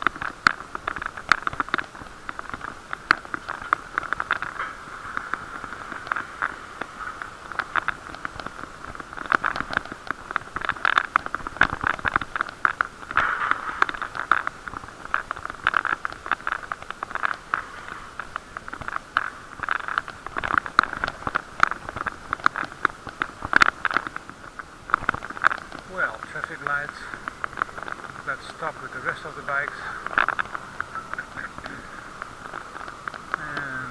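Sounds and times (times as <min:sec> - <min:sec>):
bicycle knocking and rattling: 0:00.0 - 0:33.9.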